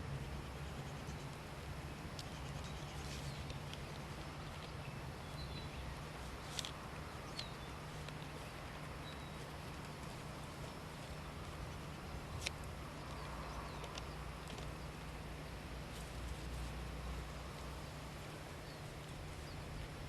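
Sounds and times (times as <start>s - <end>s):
small birds chirping: 0.0s - 20.0s
steady low hum: 0.0s - 20.0s.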